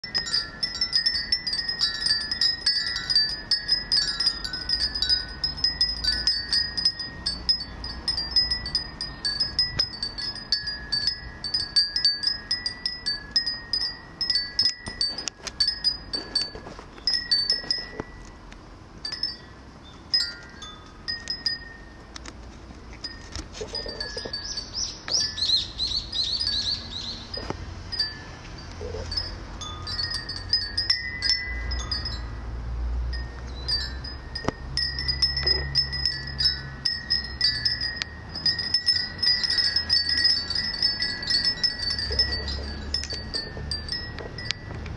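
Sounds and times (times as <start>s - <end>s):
glass wind chimes tinkling: 0.0s - 44.9s.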